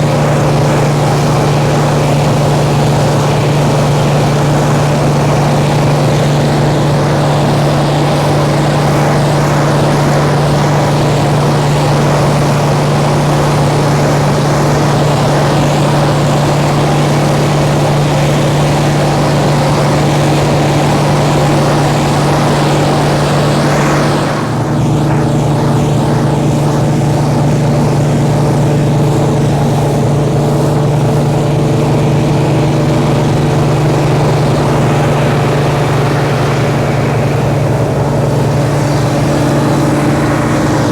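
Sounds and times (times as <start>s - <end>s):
combine harvester engine hum: 0.0s - 40.9s
rushing mechanical noise: 0.0s - 40.9s.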